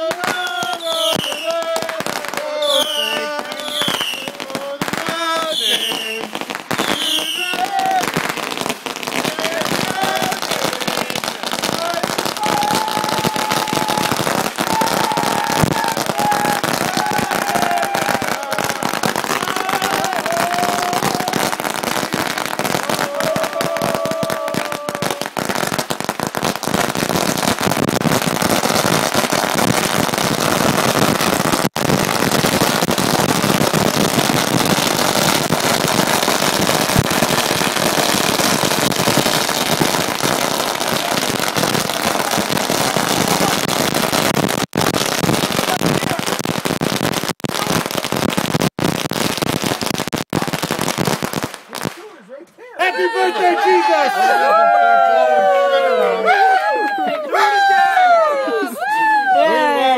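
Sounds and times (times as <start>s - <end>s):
firecrackers banging: 0.0s - 52.1s.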